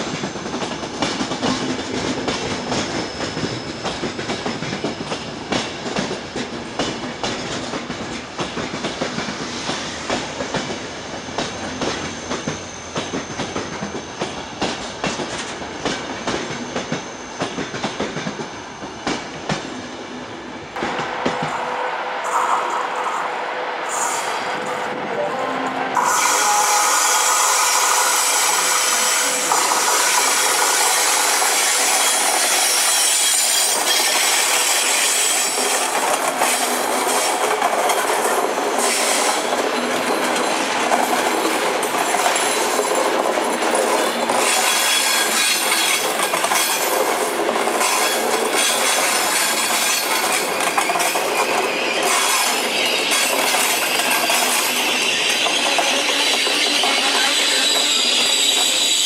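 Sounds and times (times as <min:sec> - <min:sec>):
train wheels on rails: 0:00.0 - 0:59.0.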